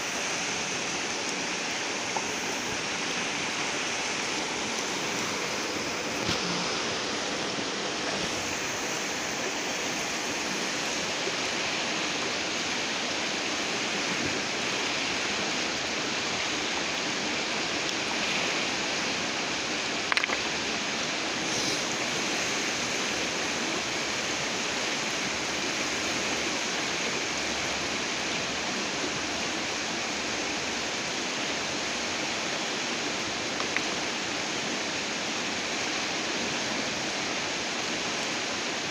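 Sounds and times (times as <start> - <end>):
fast-flowing river rushing: 0.0 - 38.9.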